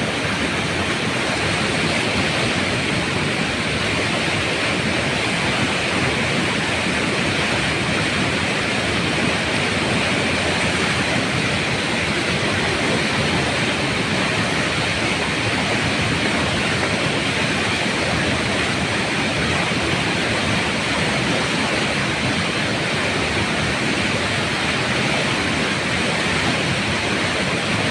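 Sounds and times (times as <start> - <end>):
floodwater rushing: 0.0 - 27.9.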